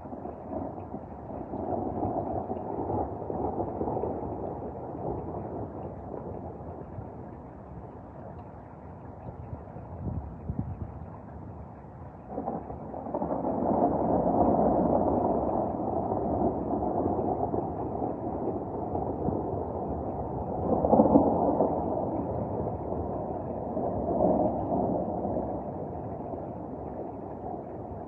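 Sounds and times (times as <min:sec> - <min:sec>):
rolling thunder: 0:00.0 - 0:08.0, 0:09.4 - 0:28.0.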